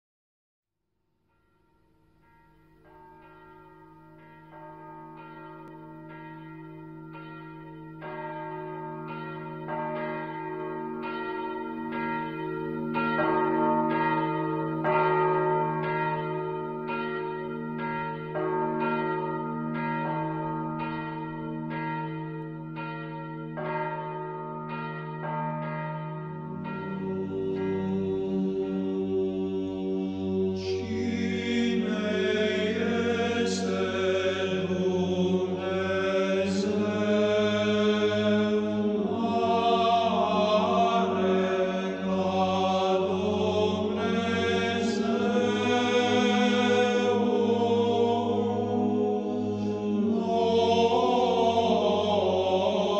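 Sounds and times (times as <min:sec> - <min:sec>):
church bells ringing: 0:01.3 - 0:52.9.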